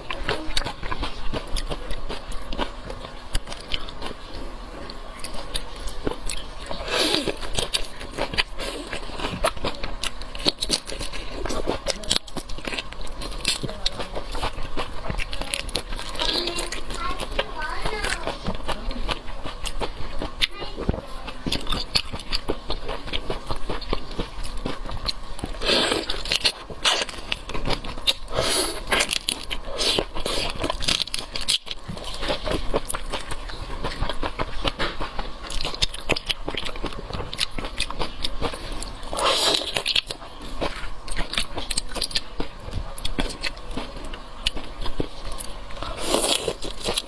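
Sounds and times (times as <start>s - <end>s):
biting and chewing seafood: 0.0s - 47.0s.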